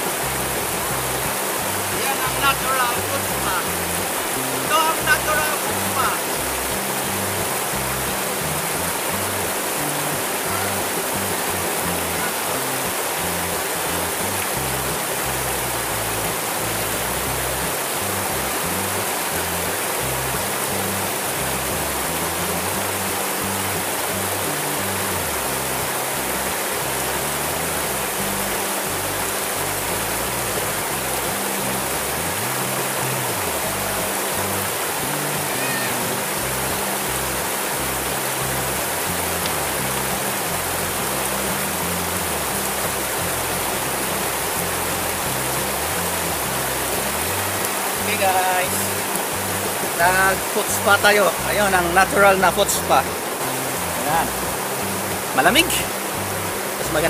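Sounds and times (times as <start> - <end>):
music: 0.0 - 57.0
river water rushing over rocks: 0.0 - 57.0.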